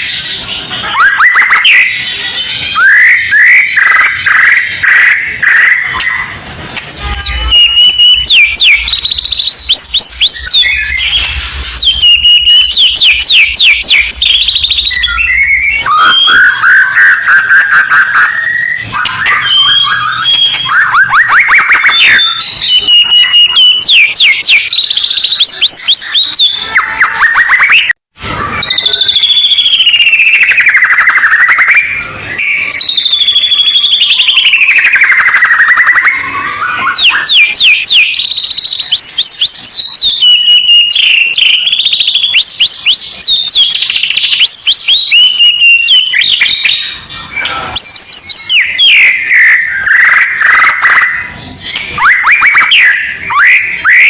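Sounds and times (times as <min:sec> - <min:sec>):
songbird singing sharp whistled phrases: 0:07.1 - 0:27.9, 0:28.6 - 0:54.0.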